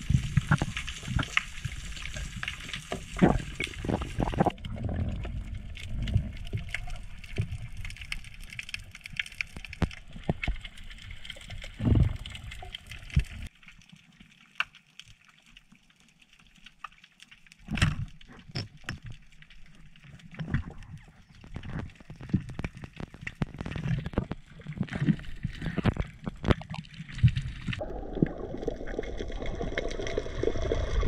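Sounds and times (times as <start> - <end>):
water sloshing and bubbling: 0.0 - 31.0.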